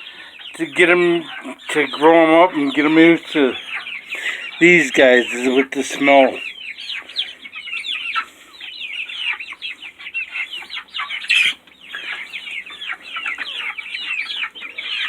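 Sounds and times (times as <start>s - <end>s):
chickens clucking and calling: 0.0s - 15.0s.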